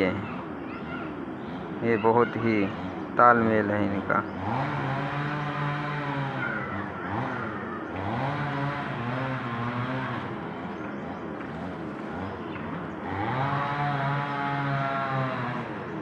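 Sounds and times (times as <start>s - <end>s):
engine accelerating: 2.7s - 16.0s.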